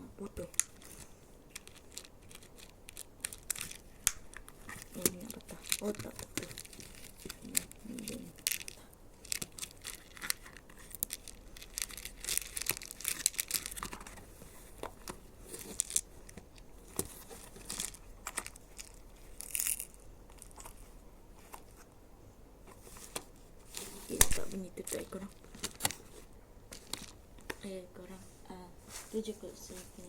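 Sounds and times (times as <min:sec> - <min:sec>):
packaging crinkling and rustling: 0:00.4 - 0:21.9, 0:22.7 - 0:27.6.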